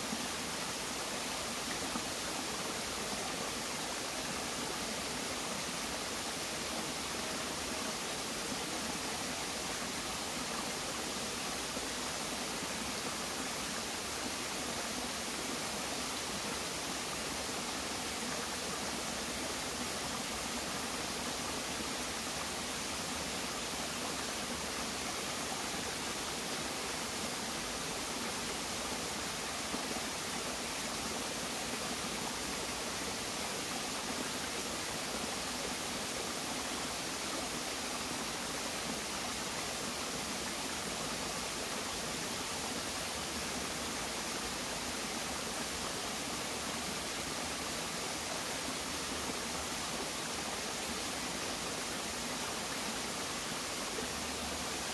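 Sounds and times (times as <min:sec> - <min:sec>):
stream running over rocks: 0:00.0 - 0:54.9.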